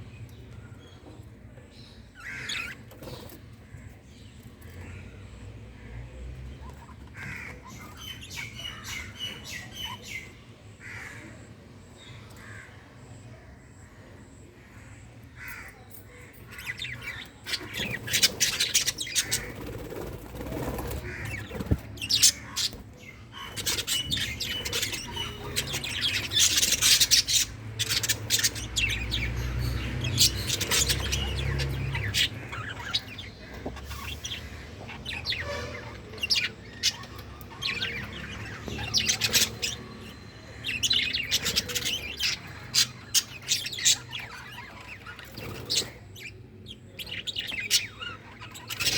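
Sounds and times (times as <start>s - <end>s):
budgerigars chirping and chattering: 0.0s - 12.9s, 13.8s - 48.9s.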